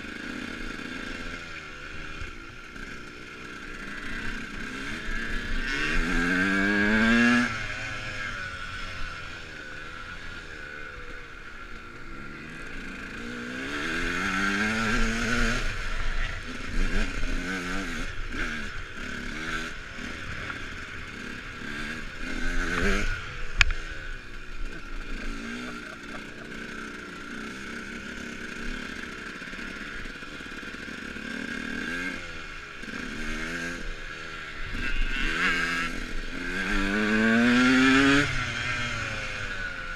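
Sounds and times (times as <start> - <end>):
dirt bike accelerating: 0.0 - 39.9.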